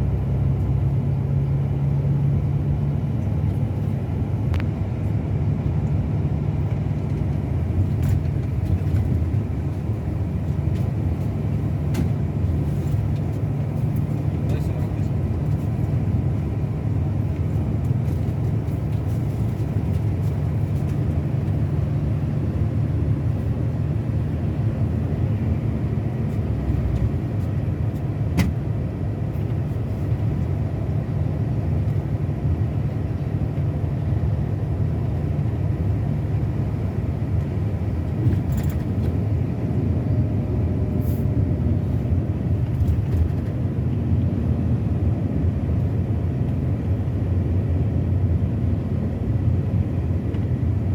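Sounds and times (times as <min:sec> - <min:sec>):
diesel engine droning: 0:00.0 - 0:50.9
road noise: 0:00.0 - 0:50.9.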